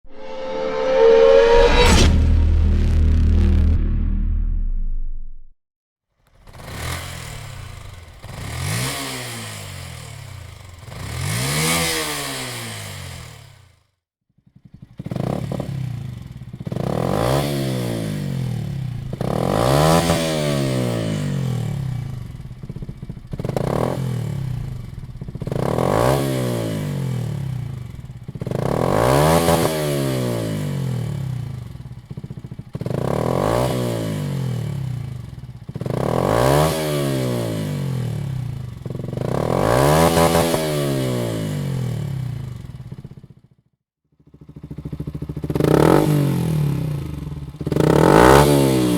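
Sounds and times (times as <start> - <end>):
motorcycle engine revving: 6.5 - 13.7, 14.6 - 43.4, 44.2 - 48.9.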